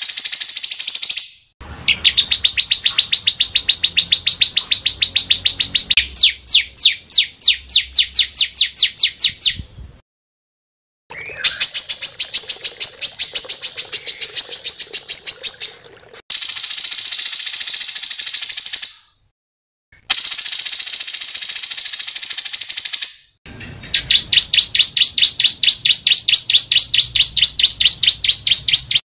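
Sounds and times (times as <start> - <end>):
small songbird chirping: 0.0 - 9.7, 11.1 - 19.3, 20.1 - 29.0.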